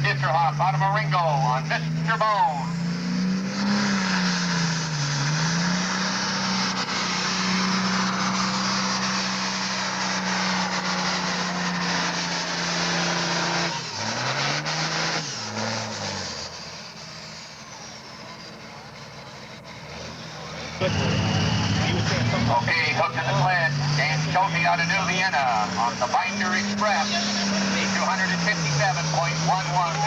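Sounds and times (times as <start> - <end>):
tractor engine revving: 0.0 - 30.0.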